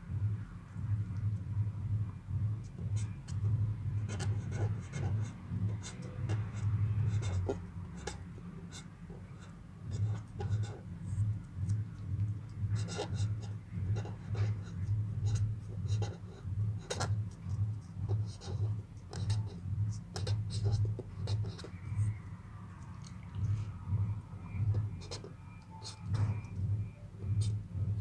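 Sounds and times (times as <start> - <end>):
pulsing low hum: 0.0 - 28.0
marker pen writing on paper: 2.6 - 22.2, 22.9 - 26.6, 27.2 - 27.7.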